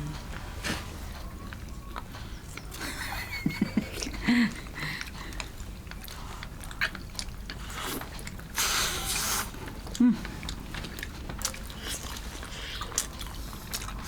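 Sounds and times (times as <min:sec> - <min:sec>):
person chewing food: 0:00.4 - 0:14.0.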